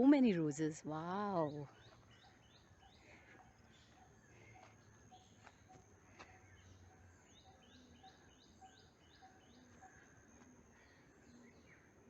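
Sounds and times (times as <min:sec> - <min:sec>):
faint background bird calls: 0:00.0 - 0:12.0.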